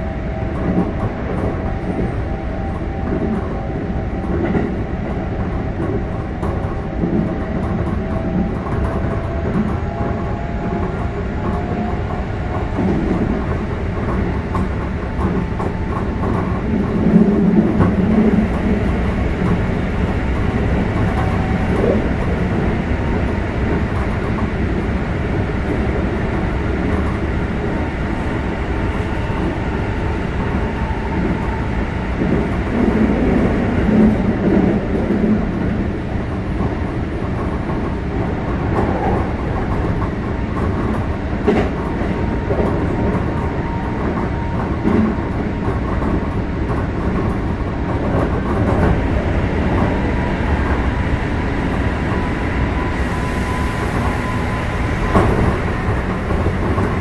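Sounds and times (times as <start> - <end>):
train wheels rumbling on rail: 0.0 - 57.0
rail-joint clatter: 0.4 - 50.9, 51.7 - 57.0.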